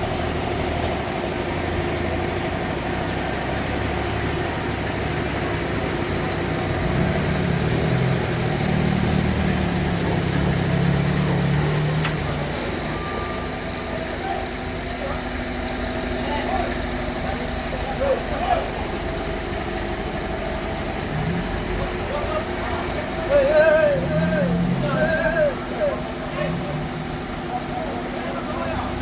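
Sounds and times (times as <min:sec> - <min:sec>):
bandsaw sawmill running: 0:00.0 - 0:29.0.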